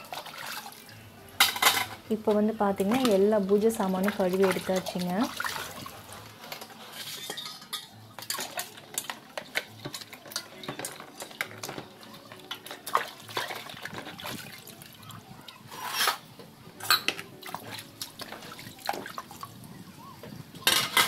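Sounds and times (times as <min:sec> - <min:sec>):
metal vessels clinking: 0:00.0 - 0:15.0, 0:15.6 - 0:19.6, 0:20.6 - 0:21.0
water sloshing and splashing: 0:00.0 - 0:21.0.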